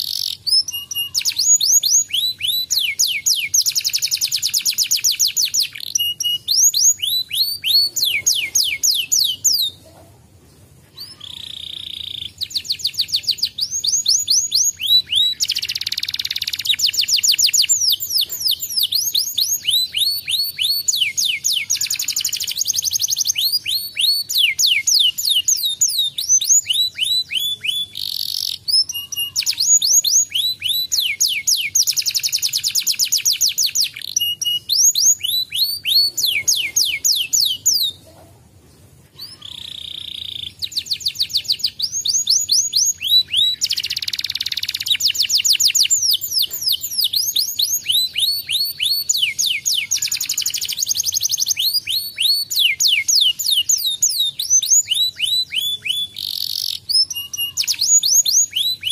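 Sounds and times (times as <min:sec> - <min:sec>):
canary singing fast trills: 0:00.0 - 0:09.9, 0:10.8 - 0:38.1, 0:39.2 - 0:58.9.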